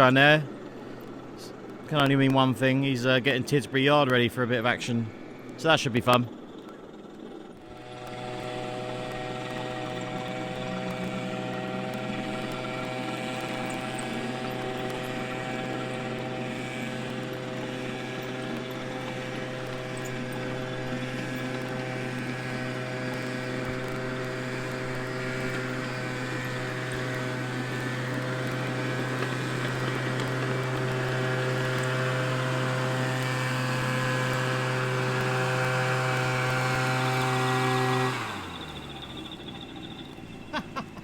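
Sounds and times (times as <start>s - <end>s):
leaf blower running: 0.0s - 41.0s.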